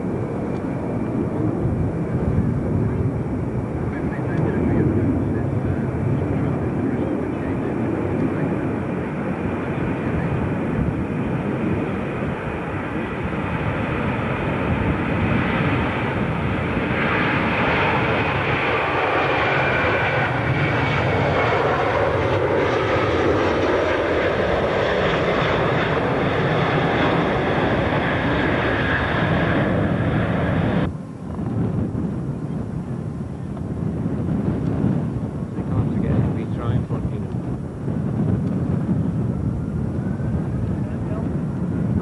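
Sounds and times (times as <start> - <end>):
airliner engines passing: 0.0 - 42.0.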